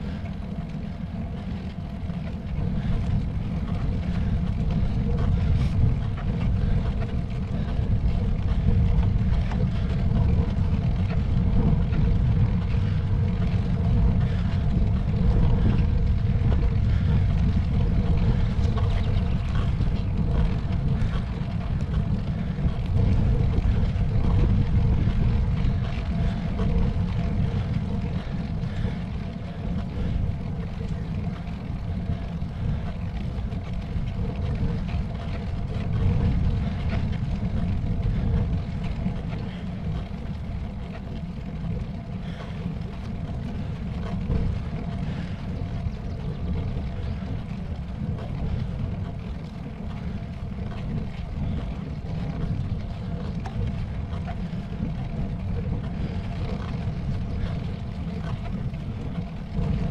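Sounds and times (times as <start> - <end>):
faint steady hum: 0.0 - 59.9
wind buffeting microphone: 0.0 - 59.9.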